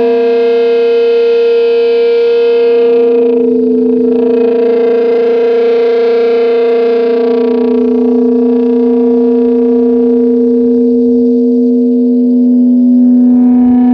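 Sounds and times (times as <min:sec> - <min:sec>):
distorted electric guitar drone: 0:00.0 - 0:13.9.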